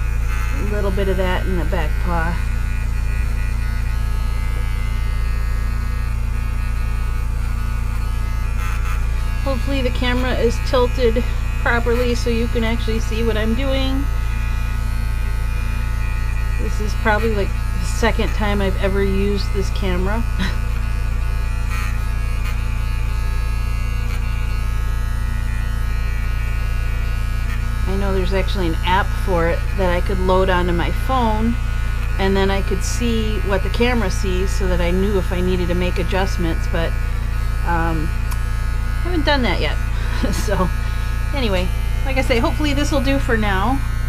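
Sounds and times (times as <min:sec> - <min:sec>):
electric clippers humming: 0:00.0 - 0:44.0.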